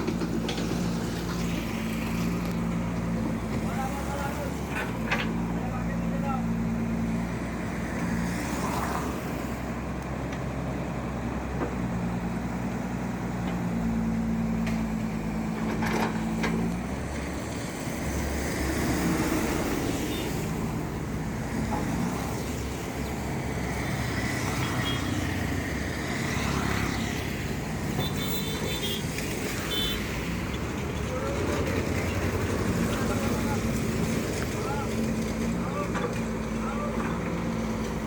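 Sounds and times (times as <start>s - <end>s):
diesel machinery engine running: 0.0s - 38.0s
road traffic: 0.0s - 38.0s.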